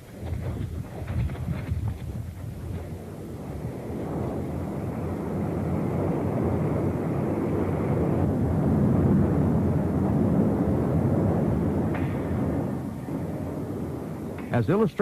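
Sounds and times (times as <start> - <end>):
low eruption rumbling: 0.0 - 15.0.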